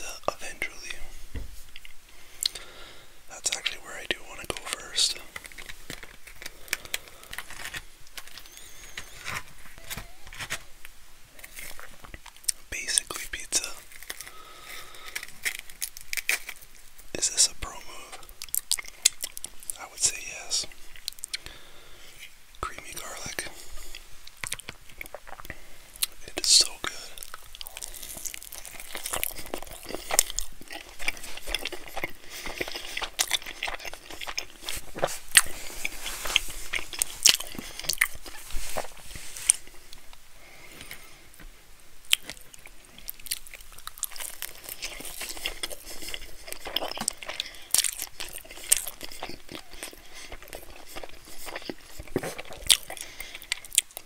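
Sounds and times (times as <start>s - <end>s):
crunchy bread chewing: 3.5s - 54.0s.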